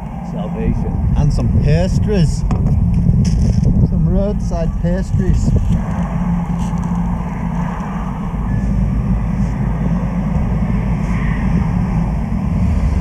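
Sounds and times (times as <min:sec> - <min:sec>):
motorcycle engine drone: 0:00.0 - 0:13.0
wind rush: 0:00.0 - 0:13.0.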